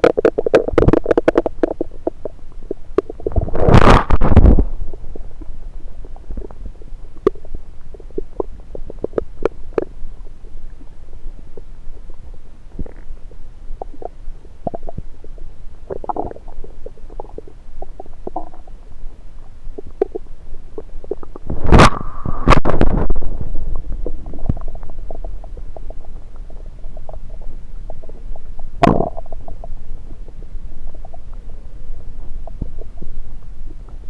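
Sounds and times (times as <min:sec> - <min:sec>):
stomach gurgling: 0:00.0 - 0:34.0.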